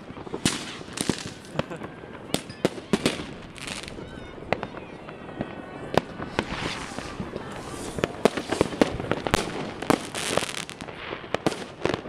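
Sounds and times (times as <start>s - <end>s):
distant firecracker pops and crackle: 0.0s - 12.0s
firework bangs: 0.0s - 12.0s.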